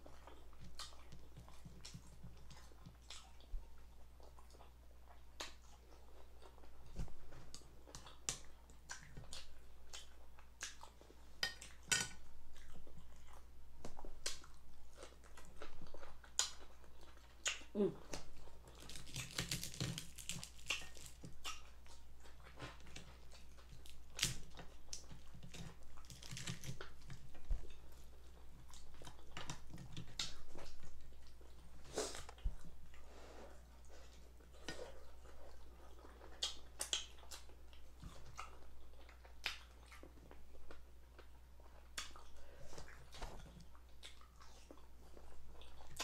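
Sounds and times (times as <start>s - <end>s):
chewing and crunching: 0.0s - 46.0s.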